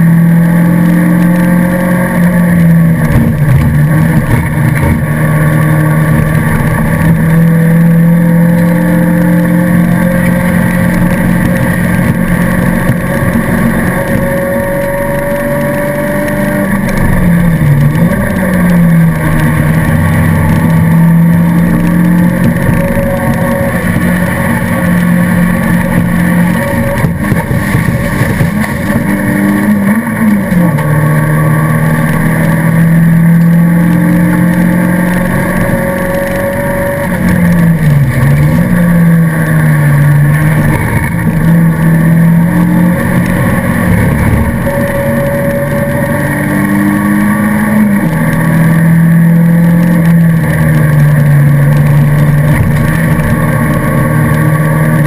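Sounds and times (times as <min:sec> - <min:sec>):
racing car engine: 0:00.0 - 0:55.0
road and wind noise: 0:00.0 - 0:55.0.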